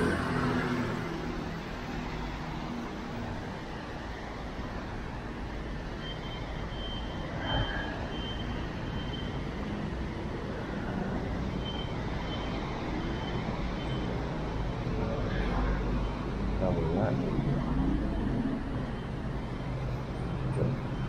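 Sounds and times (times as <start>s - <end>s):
traffic on wet roads: 0.0s - 21.0s.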